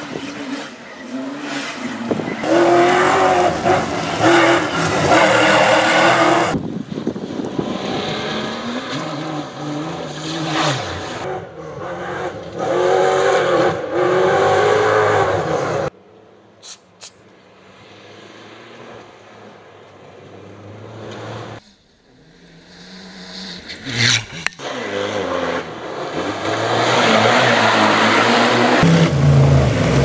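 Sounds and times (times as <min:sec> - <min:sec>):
car engines revving hard: 0:00.0 - 0:16.0, 0:17.9 - 0:30.0.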